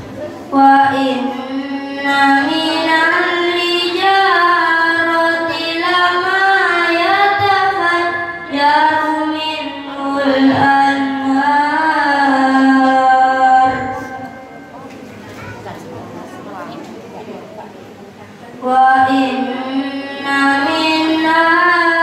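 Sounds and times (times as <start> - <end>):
boy chanting a recitation: 0.0 - 16.0, 18.4 - 22.0.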